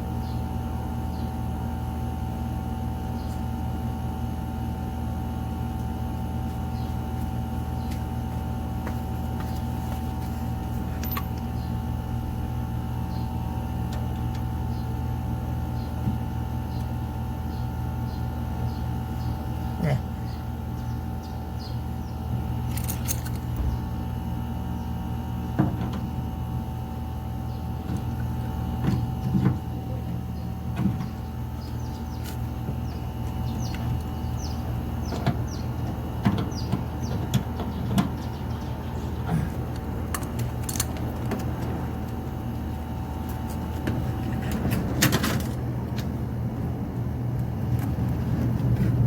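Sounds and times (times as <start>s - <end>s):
air conditioner unit humming: 0.0s - 49.0s.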